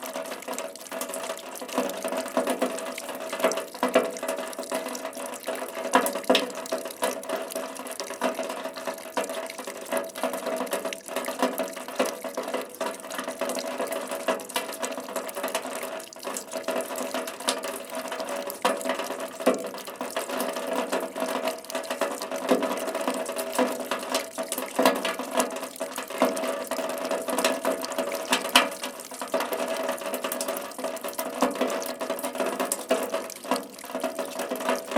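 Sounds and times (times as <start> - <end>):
raindrops striking: 0.0 - 34.9.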